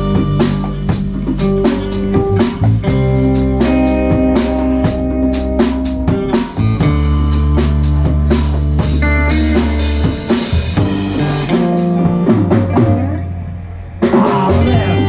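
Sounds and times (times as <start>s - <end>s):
bass guitar: 0.0s - 15.0s
drum kit: 0.0s - 15.0s
electric guitar: 0.0s - 15.0s.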